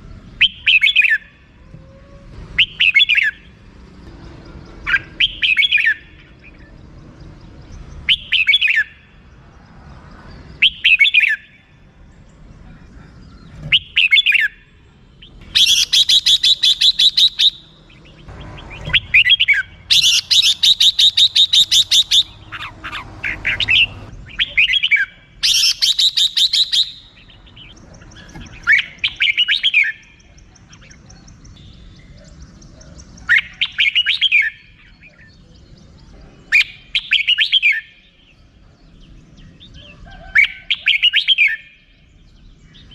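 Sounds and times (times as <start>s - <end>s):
bird calling: 0.0s - 3.6s, 4.7s - 6.8s, 8.0s - 9.3s, 10.6s - 11.8s, 12.6s - 42.1s.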